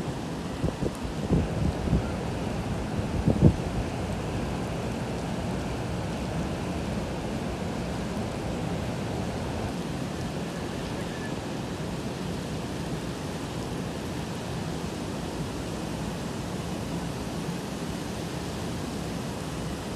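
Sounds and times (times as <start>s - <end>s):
heavy rain and wind: 0.0s - 19.9s.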